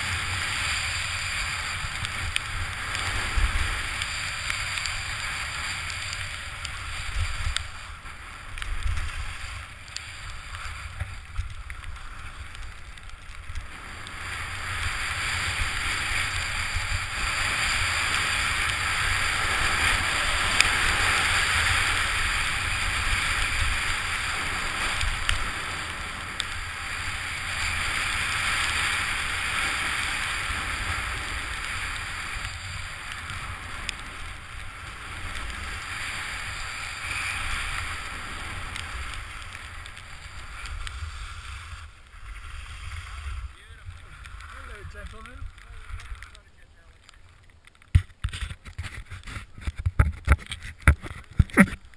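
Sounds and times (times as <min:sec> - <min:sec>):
wind rushing over microphone: 0:00.0 - 0:46.8
skis hissing through snow: 0:00.0 - 0:46.9.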